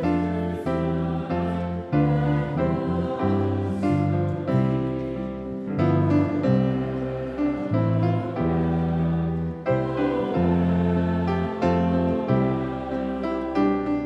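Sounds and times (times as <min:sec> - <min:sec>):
slow gentle music: 0:00.0 - 0:14.0.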